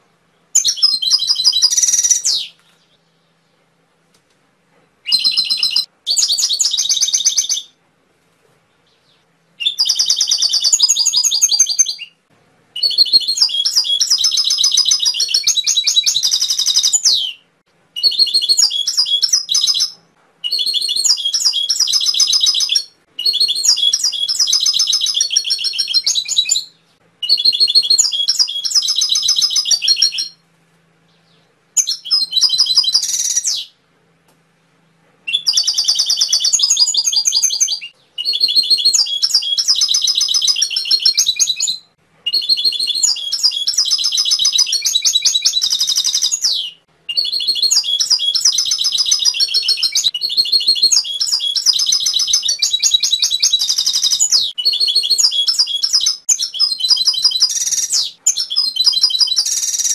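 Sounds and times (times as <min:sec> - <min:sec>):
canary singing trills: 0:00.3 - 0:03.6, 0:05.0 - 0:07.8, 0:08.7 - 0:12.2, 0:12.8 - 0:30.4, 0:31.0 - 0:33.8, 0:35.3 - 0:59.9.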